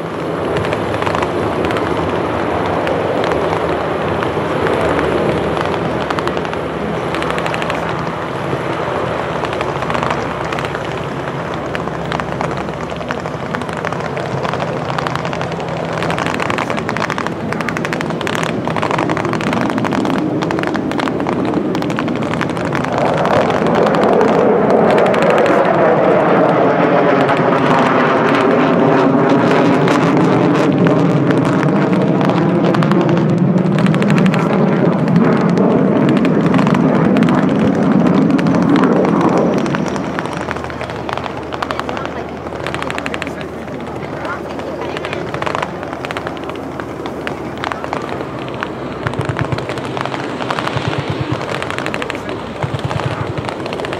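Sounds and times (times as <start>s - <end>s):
turboprop engines droning: 0.0s - 53.9s.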